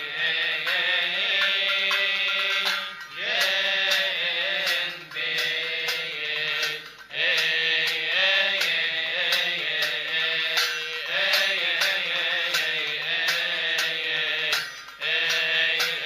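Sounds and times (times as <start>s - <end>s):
man chanting a hymn: 0.0s - 16.0s
struck percussion beat: 0.0s - 16.0s.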